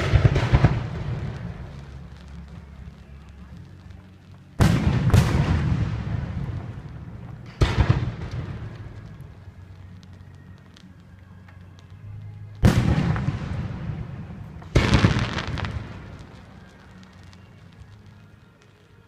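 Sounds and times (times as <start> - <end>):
fireworks booming with rumbling echo: 0.0 - 19.0.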